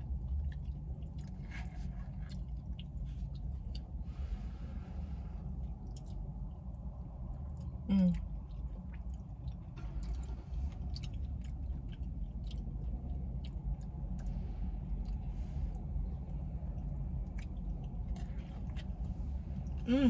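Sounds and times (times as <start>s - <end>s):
person chewing: 0.0s - 4.4s, 5.5s - 20.0s
low hum: 0.0s - 20.0s.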